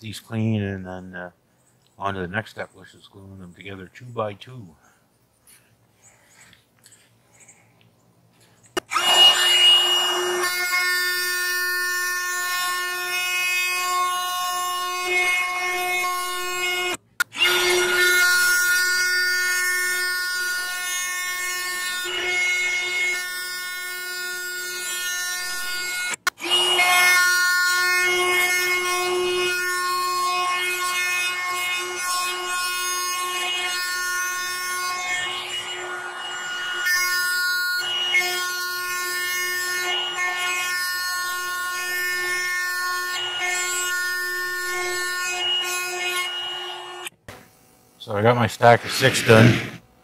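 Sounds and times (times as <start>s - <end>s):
router whining: 8.6s - 49.9s.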